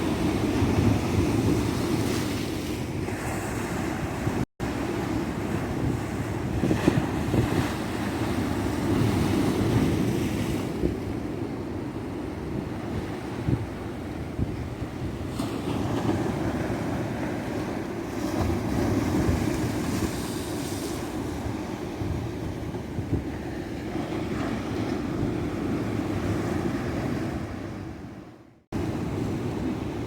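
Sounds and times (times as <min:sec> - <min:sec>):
ocean waves washing on beach: 0:00.0 - 0:30.0.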